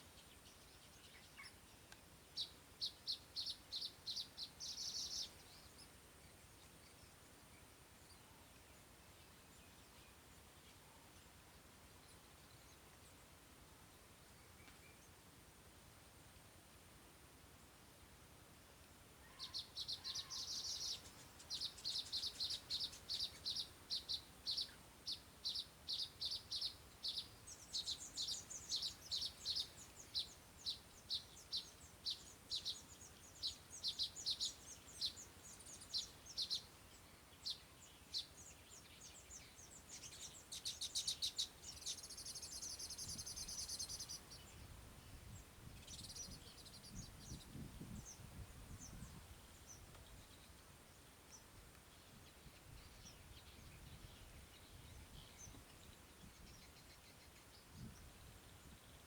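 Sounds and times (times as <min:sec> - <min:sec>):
small birds chirping: 0:00.0 - 0:13.2, 0:19.2 - 0:59.0.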